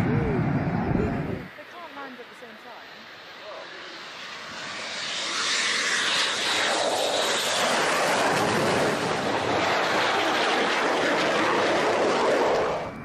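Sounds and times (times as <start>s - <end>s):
low-flying aircraft engine: 0.0s - 13.0s.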